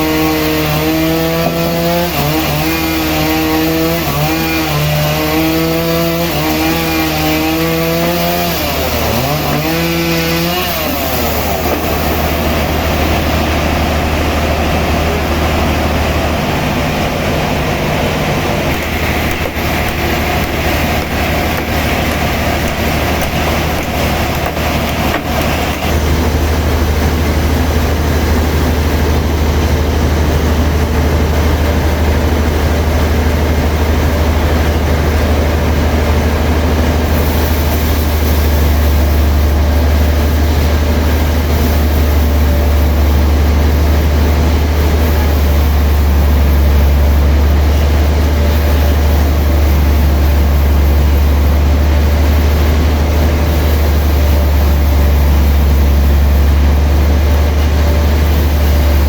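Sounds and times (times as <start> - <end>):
sawmill machinery engine drone: 0.0 - 59.0.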